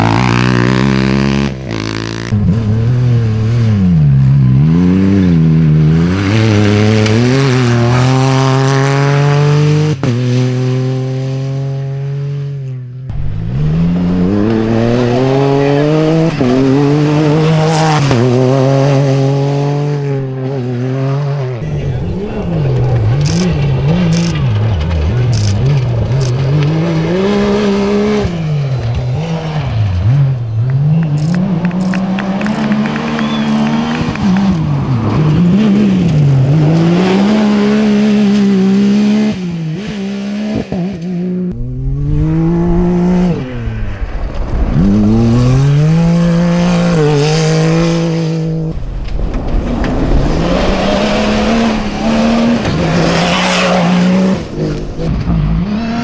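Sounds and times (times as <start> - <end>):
rally car engines at full throttle: 0.0 - 56.0.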